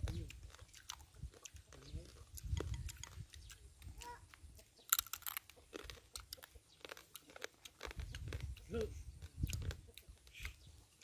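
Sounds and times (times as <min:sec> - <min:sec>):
crab shells cracking and crunching: 0:00.0 - 0:10.7
chewing: 0:00.0 - 0:11.0.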